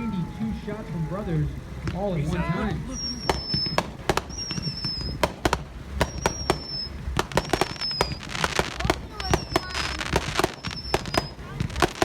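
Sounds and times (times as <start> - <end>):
fireworks launch thumps: 1.8 - 12.0
fireworks whistles: 1.9 - 12.0.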